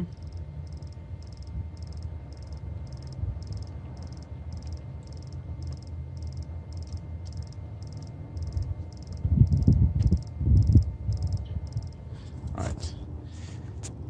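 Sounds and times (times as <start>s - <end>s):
fuel pump regulator ticking faintly: 0.0s - 12.6s
low rumbles: 0.0s - 13.8s
steady low hum: 0.0s - 14.0s.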